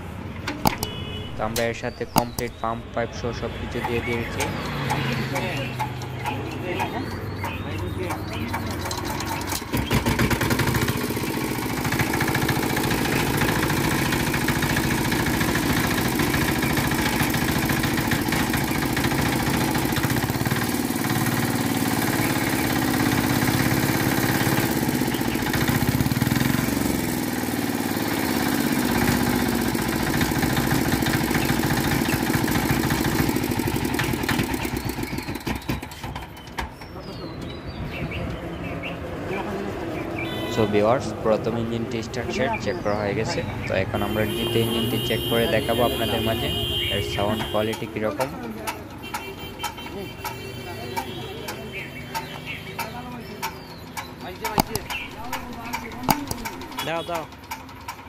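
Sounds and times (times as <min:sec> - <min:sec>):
diesel engine starting and running: 0:00.0 - 0:58.0.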